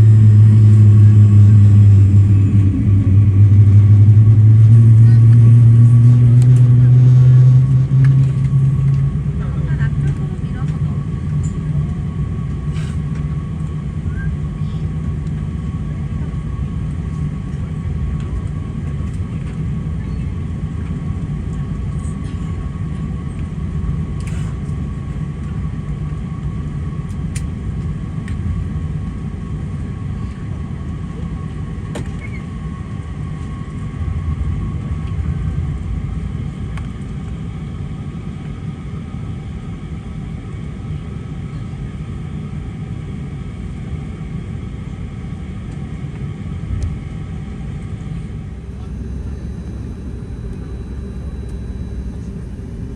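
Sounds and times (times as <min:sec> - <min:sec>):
aircraft cabin rumble: 0:00.0 - 0:41.8, 0:45.4 - 0:52.9.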